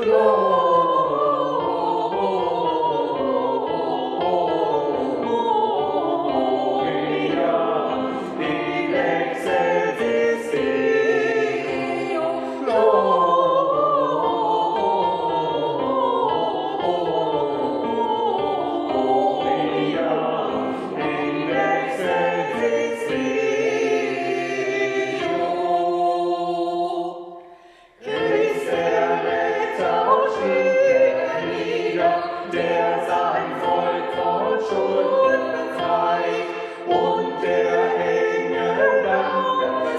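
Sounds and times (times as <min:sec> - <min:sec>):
choir singing held chords: 0:00.0 - 0:39.9.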